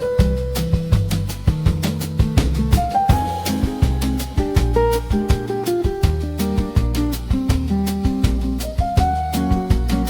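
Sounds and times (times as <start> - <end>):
bossa nova lounge music: 0.0 - 10.0.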